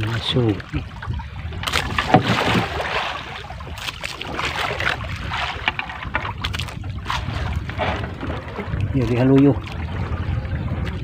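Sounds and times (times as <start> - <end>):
water sloshing against boat hull: 0.0 - 11.0.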